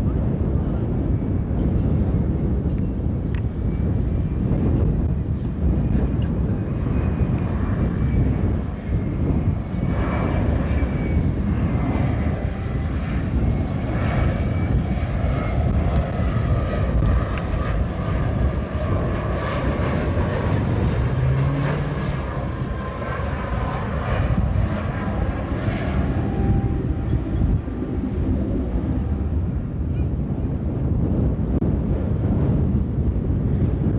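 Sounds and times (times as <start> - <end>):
jet airliner passing by: 0.0 - 33.9.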